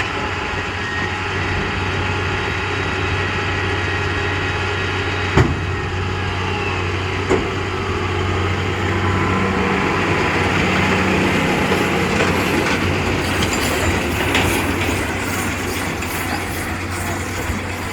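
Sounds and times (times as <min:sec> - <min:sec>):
tractor and baler running: 0:00.0 - 0:17.9.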